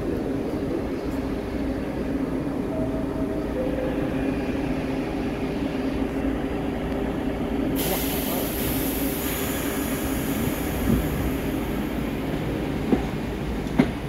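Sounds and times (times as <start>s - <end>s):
subway car humming: 0.0s - 14.0s.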